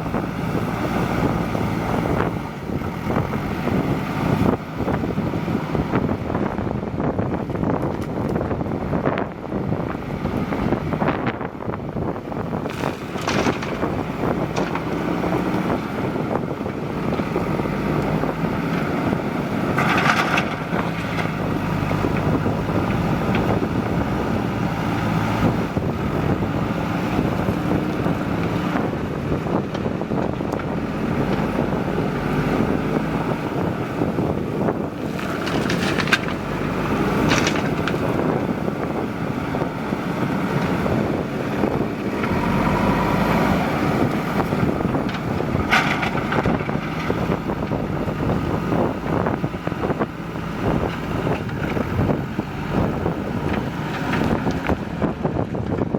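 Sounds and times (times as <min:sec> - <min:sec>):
diesel engine revving under load: 0:00.0 - 0:55.9
wind buffeting microphone: 0:00.0 - 0:55.9.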